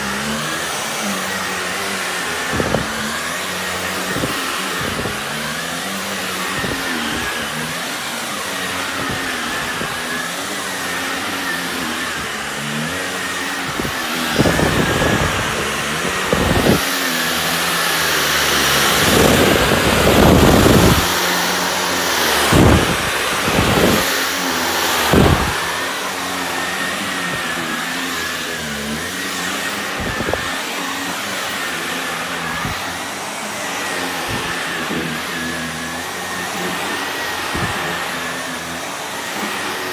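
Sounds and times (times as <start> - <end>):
vacuum cleaner motor hum: 0.0 - 39.9
vacuum rushing bursts: 0.0 - 39.9.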